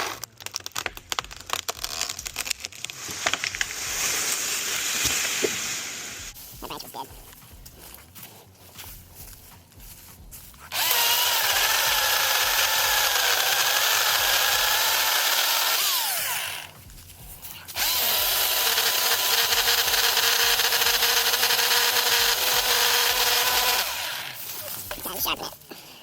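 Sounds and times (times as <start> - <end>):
battery chainsaw cutting wood: 0.0 - 0.3, 1.2 - 9.2, 10.6 - 16.8, 17.5 - 25.4.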